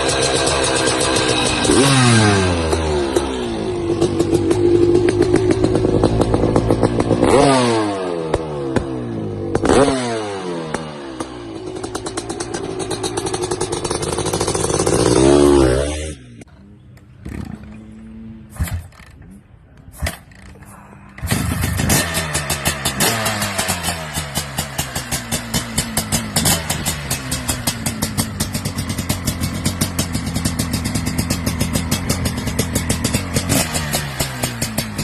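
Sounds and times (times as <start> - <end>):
two-stroke engine revving: 0.0 - 16.5, 21.2 - 35.0.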